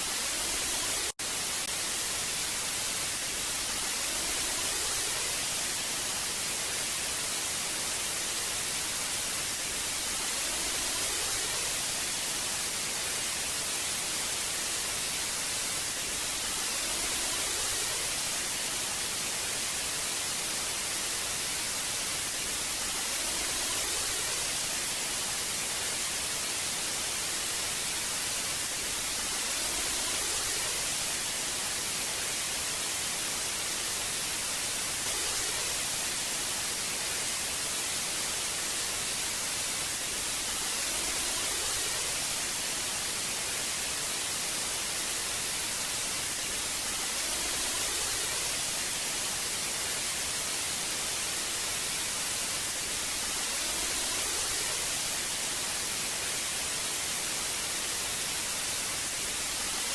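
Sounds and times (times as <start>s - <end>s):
television static hiss: 0.0s - 59.9s.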